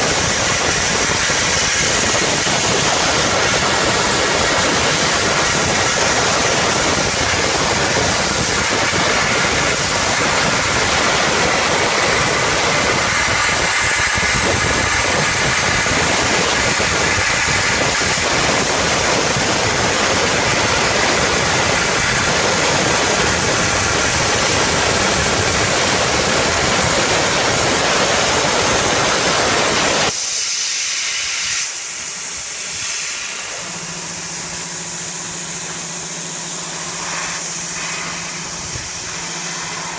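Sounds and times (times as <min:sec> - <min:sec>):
plasma arc hissing: 0:00.0 - 0:39.9.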